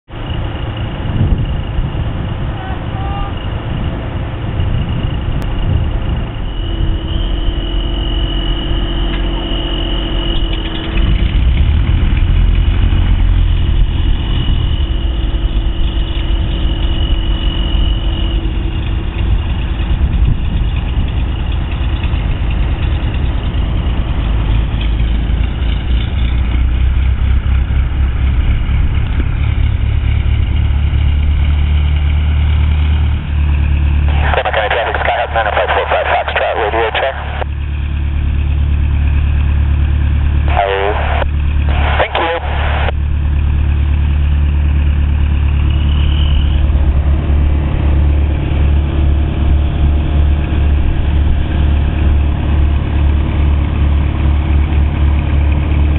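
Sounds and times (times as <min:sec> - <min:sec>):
aircraft piston engine idling: 0:00.1 - 0:55.9.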